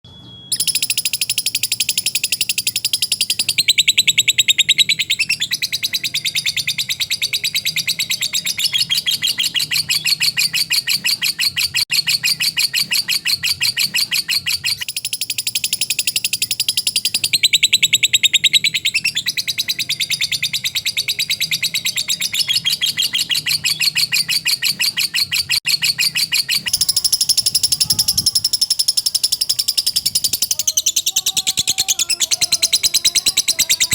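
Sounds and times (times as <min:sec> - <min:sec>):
bird chattering: 0:00.6 - 0:33.9.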